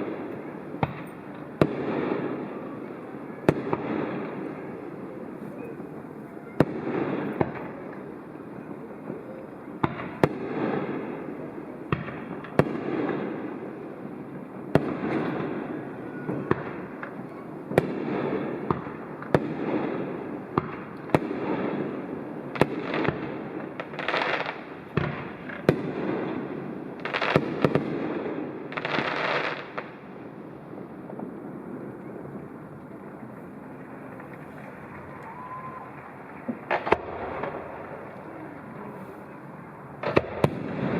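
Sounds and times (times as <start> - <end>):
fireworks bursting with bangs: 0.0 - 40.9
fireworks crackling hiss: 0.0 - 40.9.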